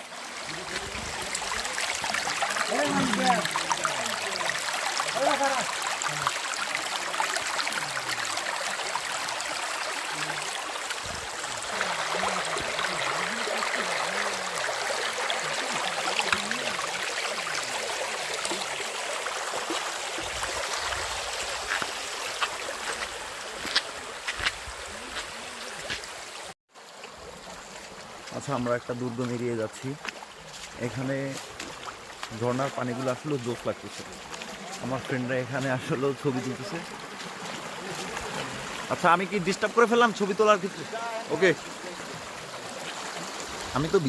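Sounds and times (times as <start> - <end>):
stream running over stones: 0.0 - 44.0.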